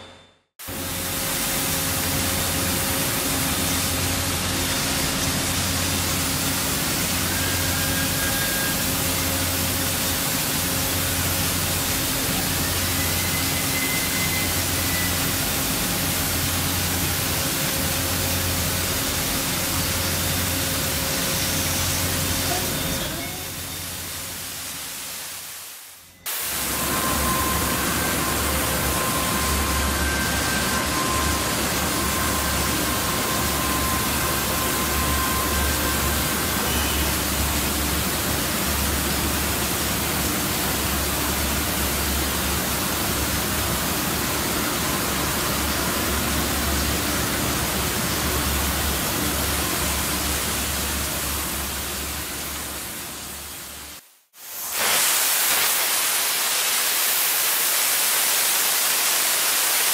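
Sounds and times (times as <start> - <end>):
gas burner hissing: 0.6 - 51.8, 54.4 - 59.9.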